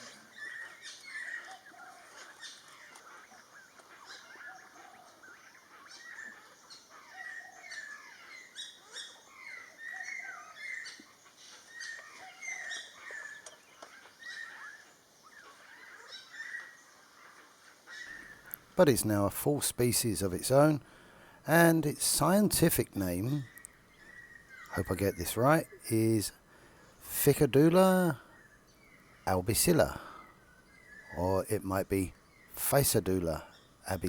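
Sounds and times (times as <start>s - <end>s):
birds chirping and calling: 0.0s - 34.0s.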